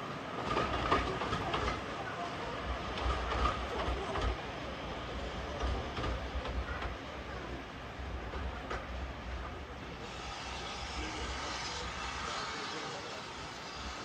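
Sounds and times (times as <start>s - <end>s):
railway carriage rumbling: 0.0s - 14.0s.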